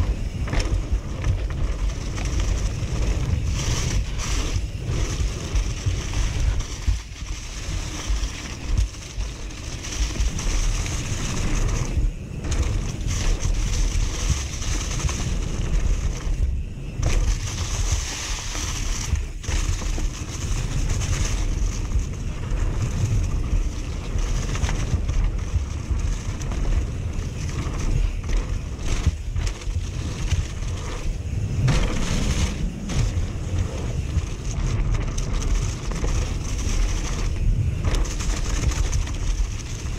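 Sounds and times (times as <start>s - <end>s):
tyres rolling on leaves and dirt: 0.0s - 39.9s
wind buffeting microphone: 0.0s - 39.9s.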